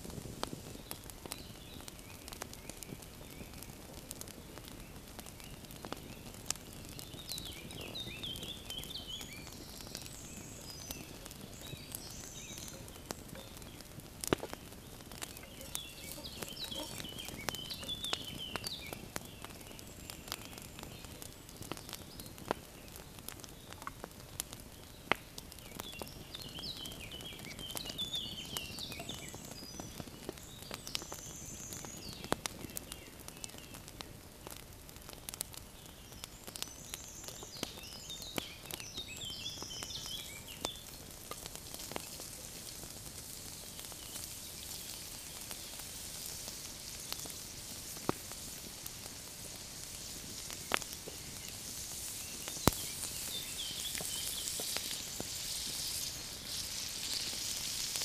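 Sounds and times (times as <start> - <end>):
campfire pops and crackles: 0.0 - 58.0
food sizzling in a frying pan: 0.0 - 58.0.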